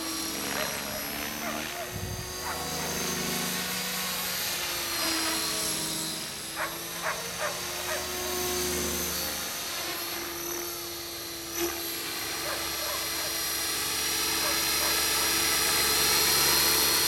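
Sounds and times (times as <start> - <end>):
model helicopter motor and rotors whine: 0.0 - 17.0.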